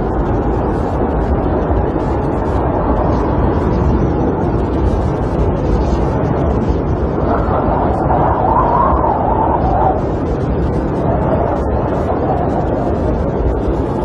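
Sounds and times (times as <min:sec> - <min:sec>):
wind blowing against camper: 0:00.0 - 0:14.0.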